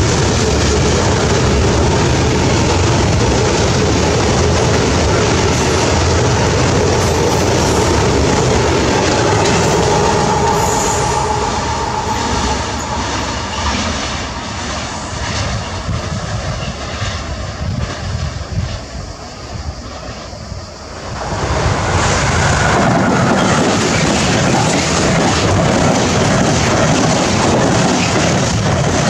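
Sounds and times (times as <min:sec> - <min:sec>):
freight train wheels rumbling: 0:00.0 - 0:29.0
train whine: 0:00.0 - 0:29.0.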